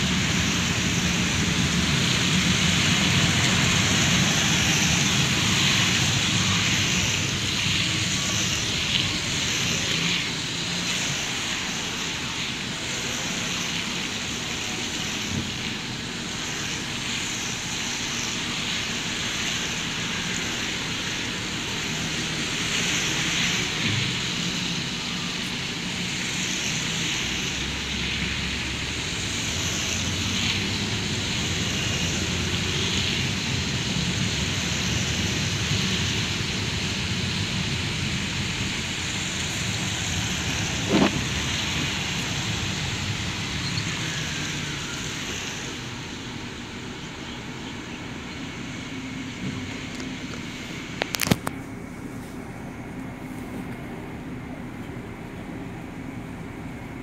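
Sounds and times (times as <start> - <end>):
car hum: 0.0 - 57.0
rain on a car: 0.0 - 57.0.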